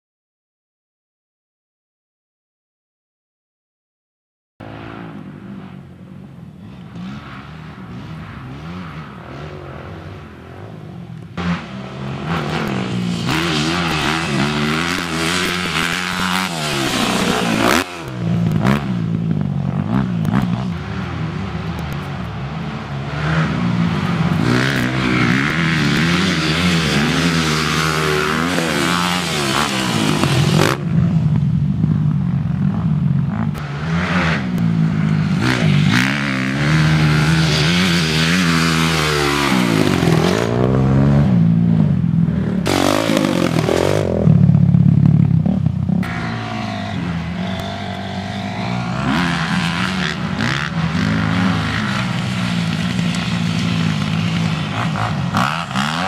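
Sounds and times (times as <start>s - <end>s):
dirt bike engines revving: 4.6s - 56.0s.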